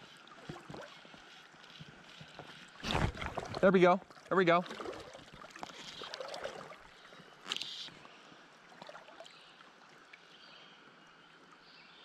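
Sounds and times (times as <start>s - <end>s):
river water trickling: 0.0s - 12.0s.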